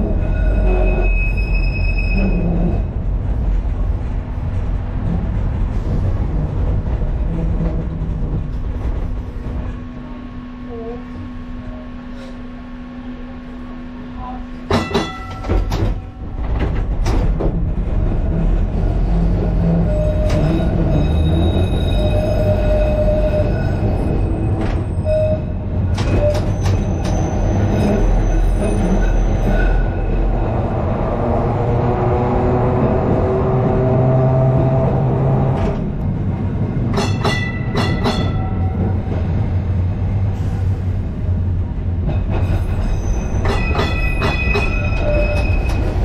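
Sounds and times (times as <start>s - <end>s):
tram wheels rumbling on rail: 0.0s - 46.0s.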